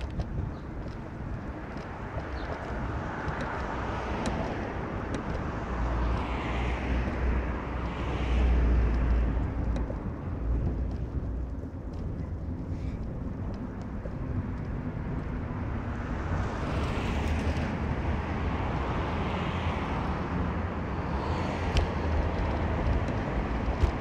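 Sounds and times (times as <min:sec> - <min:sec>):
car road and wind rumble: 0:00.0 - 0:24.0.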